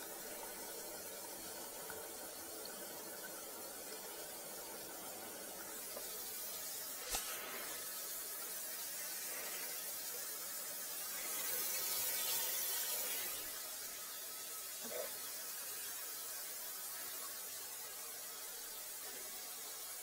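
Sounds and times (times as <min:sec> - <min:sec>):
faucet water pouring into sink: 0:00.0 - 0:20.0.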